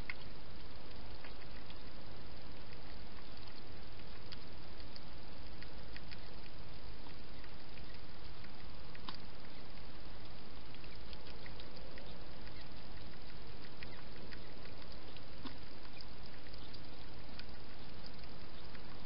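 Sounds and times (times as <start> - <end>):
hedgehog eating: 0.0 - 19.0
microphone hiss: 0.0 - 19.0.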